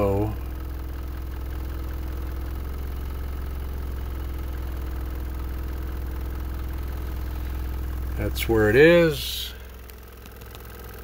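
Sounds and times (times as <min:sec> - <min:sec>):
subwoofer low sine tone: 0:00.0 - 0:11.0.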